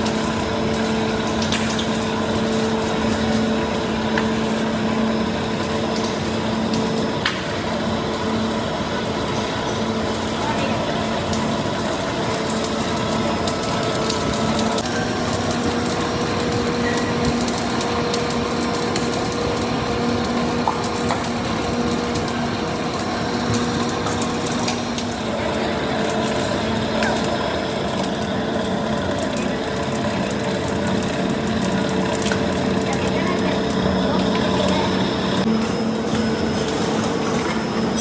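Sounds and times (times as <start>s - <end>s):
factory machinery hum: 0.0s - 38.0s.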